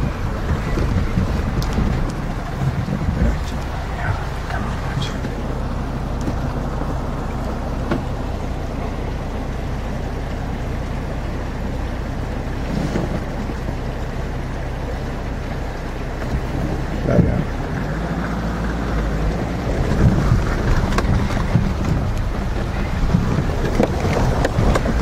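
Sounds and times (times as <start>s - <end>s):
vehicle engine and tyre noise: 0.0s - 25.0s.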